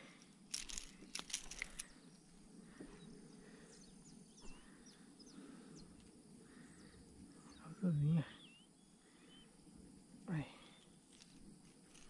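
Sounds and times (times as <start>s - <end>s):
faint bird chirps: 1.0s - 11.2s.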